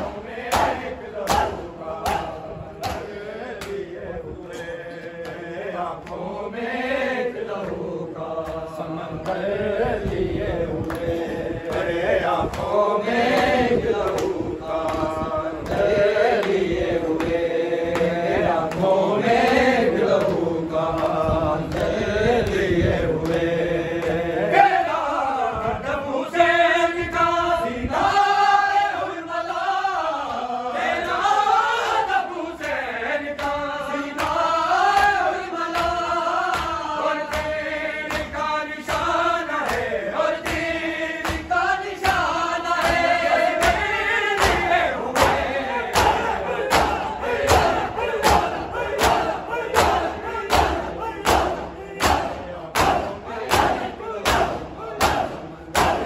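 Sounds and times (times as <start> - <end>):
men chanting in unison: 0.0 - 56.0
rhythmic chest-beating slaps: 0.0 - 56.0.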